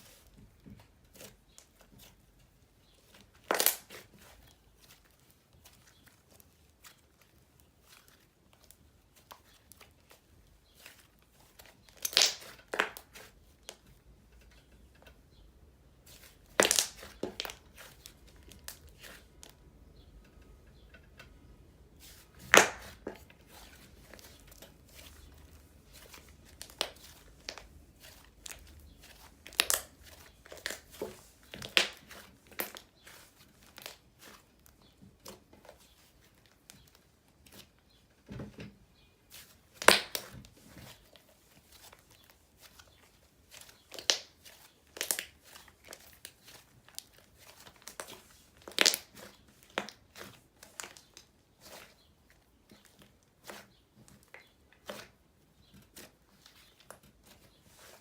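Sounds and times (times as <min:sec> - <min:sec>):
slime squishing with sticky clicks: 0:00.8 - 0:15.4, 0:16.0 - 0:37.8, 0:41.8 - 0:52.0.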